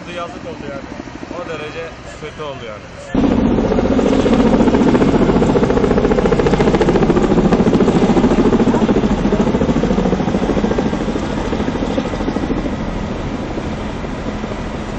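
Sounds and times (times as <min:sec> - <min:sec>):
helicopter rotor blades beating: 0:00.0 - 0:14.9.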